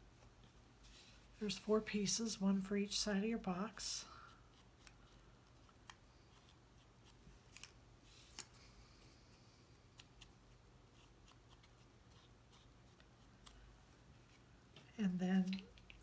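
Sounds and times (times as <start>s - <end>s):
soft paper rustle: 0.1s - 2.1s, 4.2s - 16.0s.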